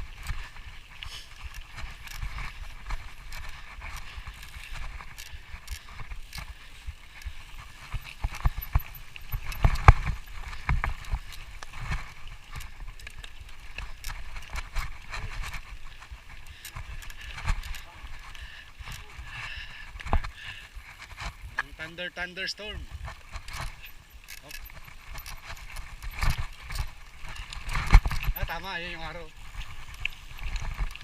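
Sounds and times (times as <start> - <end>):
wind rumbling on microphone: 0.0 - 21.7, 22.7 - 31.0
footsteps on a trail: 0.0 - 31.0.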